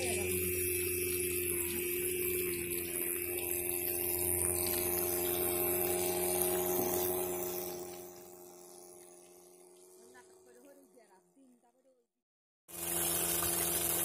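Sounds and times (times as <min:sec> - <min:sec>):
water spraying: 0:00.0 - 0:10.9, 0:12.7 - 0:14.0
water pump motor whining: 0:00.0 - 0:11.7, 0:12.7 - 0:14.0.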